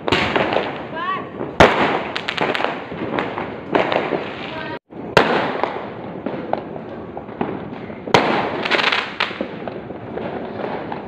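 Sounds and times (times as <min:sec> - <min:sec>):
fireworks crackling: 0:00.0 - 0:11.0
loud sharp firework bangs: 0:00.0 - 0:11.0.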